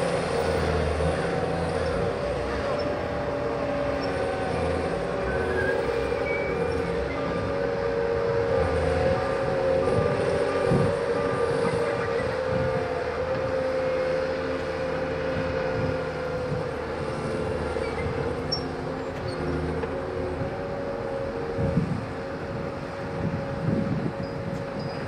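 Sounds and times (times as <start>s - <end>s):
heavy diesel machinery drone: 0.0s - 25.0s.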